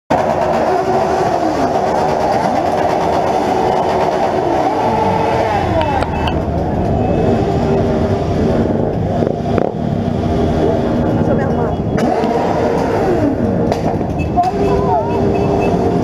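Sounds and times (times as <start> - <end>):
motorcycle engines revving: 0.1 - 16.0.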